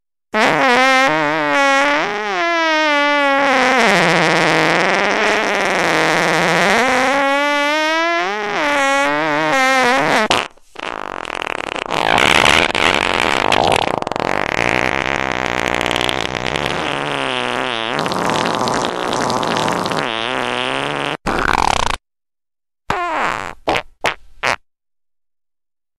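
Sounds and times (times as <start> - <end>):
farting: 0.3 - 22.0, 22.9 - 24.6.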